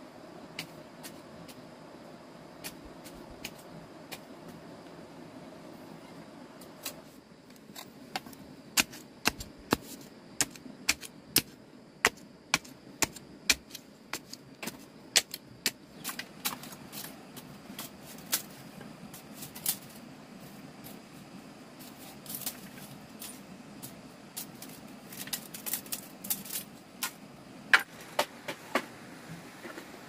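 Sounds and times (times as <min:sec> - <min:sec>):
faint background noise: 0:00.0 - 0:30.0.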